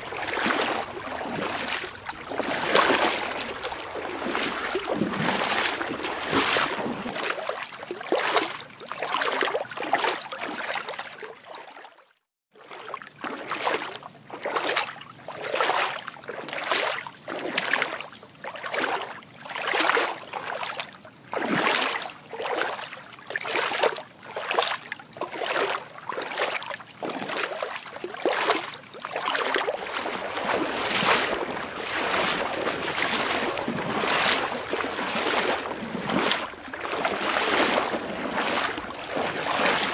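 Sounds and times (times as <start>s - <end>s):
water lapping and splashing: 0.0s - 39.9s.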